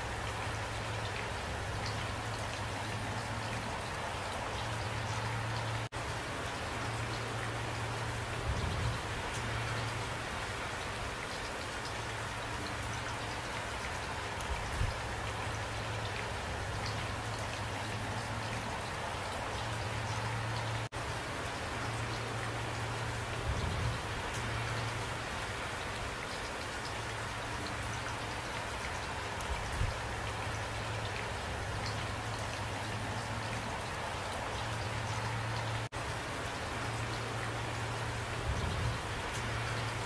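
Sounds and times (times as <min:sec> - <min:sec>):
raindrops ticking close by: 0:00.0 - 0:40.0
steady rain falling: 0:00.0 - 0:40.0.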